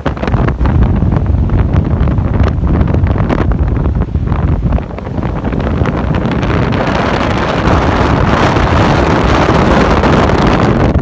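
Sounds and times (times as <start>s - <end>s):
strong wind buffeting the microphone: 0.0s - 11.0s.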